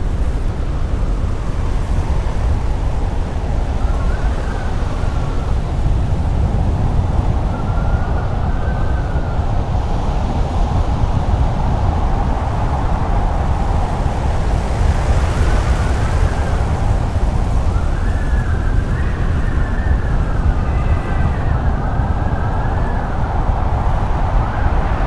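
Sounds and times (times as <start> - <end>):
blizzard wind rumbling: 0.0 - 25.0
faint whistling wind howl: 0.0 - 25.0.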